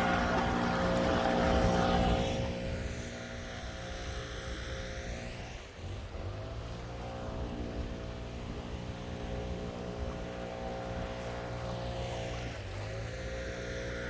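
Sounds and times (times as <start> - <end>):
distant engine drone: 0.0 - 11.7.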